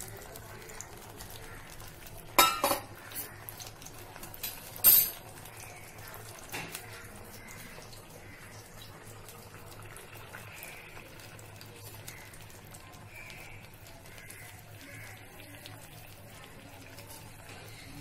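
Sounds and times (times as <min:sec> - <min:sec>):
gel bubbling in a pan: 0:00.0 - 0:18.0.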